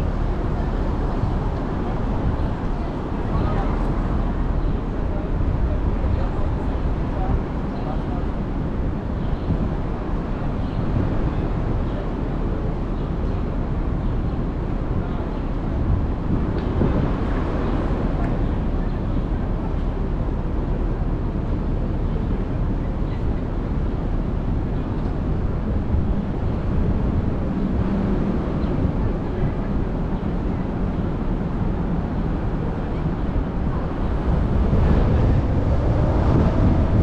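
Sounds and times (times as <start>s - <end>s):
car engine rumble: 0.0s - 37.0s
street traffic: 0.0s - 37.0s.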